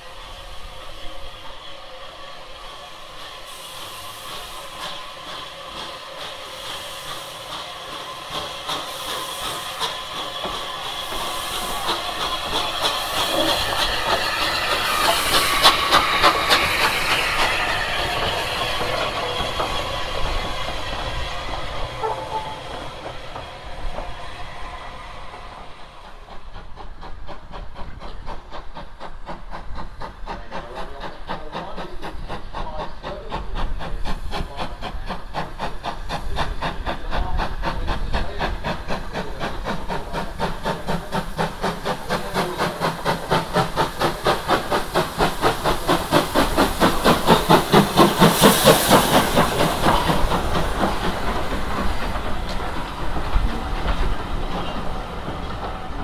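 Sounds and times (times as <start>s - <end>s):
steam hissing: 0.0s - 56.0s
steam engine rhythmic beat: 3.1s - 24.3s, 25.6s - 56.0s.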